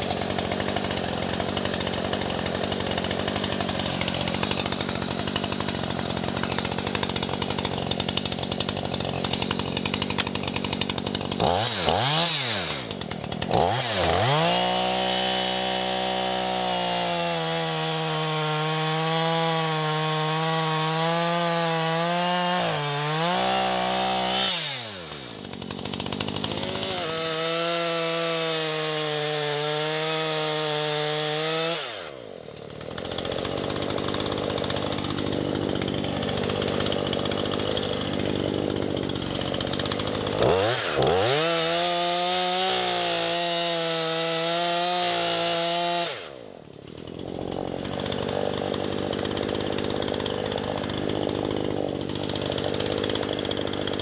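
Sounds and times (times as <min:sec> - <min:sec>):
chainsaw cutting: 0:00.0 - 0:54.0.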